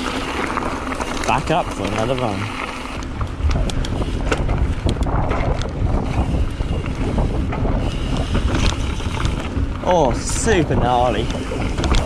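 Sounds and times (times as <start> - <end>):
bike clicks and rattles: 0.0 - 12.0
tyres rumbling over dirt: 0.0 - 12.0
wind rushing over microphone: 0.0 - 12.0.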